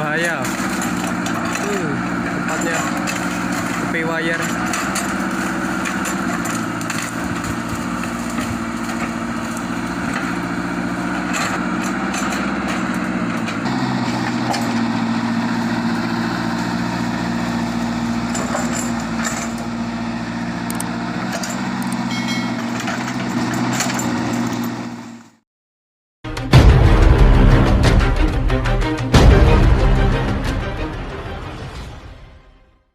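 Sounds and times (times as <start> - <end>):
excavator diesel engine running: 0.0 - 25.4, 26.3 - 31.6.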